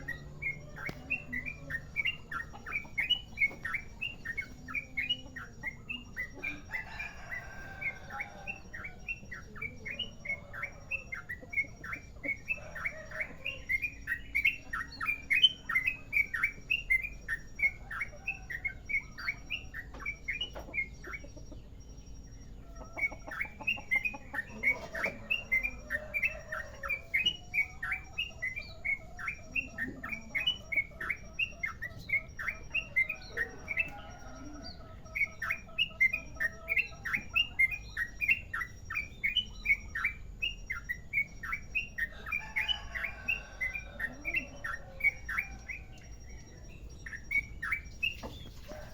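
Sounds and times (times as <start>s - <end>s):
bird chirping song: 0.0s - 48.9s.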